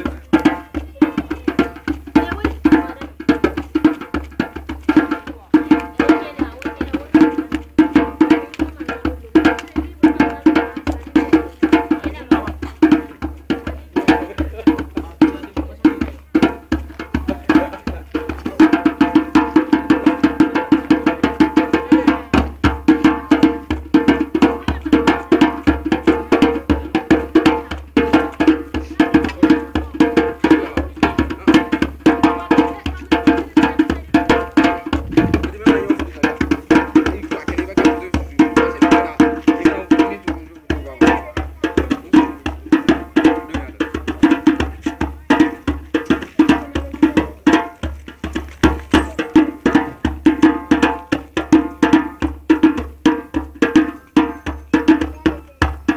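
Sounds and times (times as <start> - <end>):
hand drums fast dance rhythm: 0.0 - 55.9.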